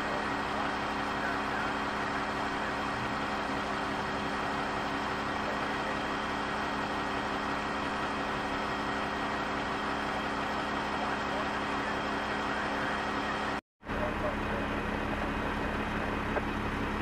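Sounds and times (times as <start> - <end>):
garbage truck engine idling: 0.0 - 17.0.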